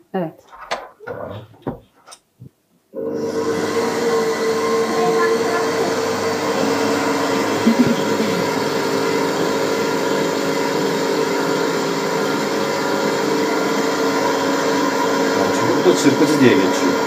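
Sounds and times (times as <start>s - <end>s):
stand mixer motor humming: 3.0s - 17.0s.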